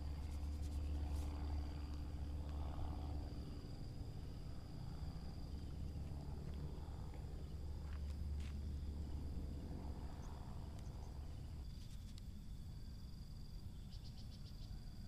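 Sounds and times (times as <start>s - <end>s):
constant low rumble: 0.0s - 15.0s
insects trilling: 0.0s - 15.0s.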